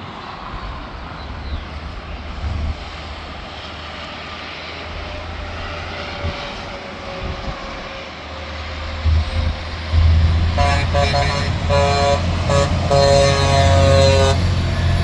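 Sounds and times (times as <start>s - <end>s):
highway traffic rumble: 0.0s - 15.0s.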